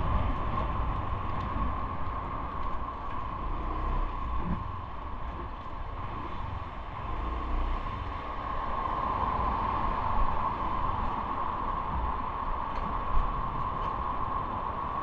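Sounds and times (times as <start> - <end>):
bicycle tyre and road noise: 0.0 - 15.0
wind rushing over microphone: 0.0 - 15.0.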